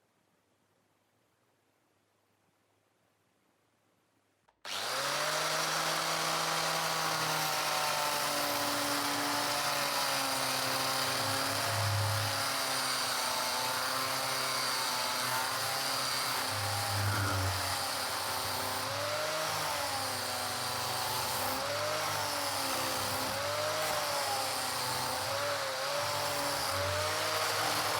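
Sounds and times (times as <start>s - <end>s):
power tool grinding metal: 4.7s - 27.9s.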